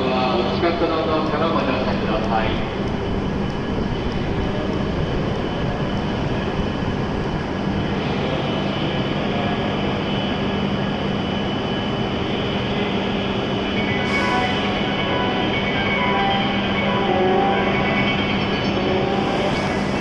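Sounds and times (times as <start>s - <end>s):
stationary train hum and whir: 0.0s - 20.0s.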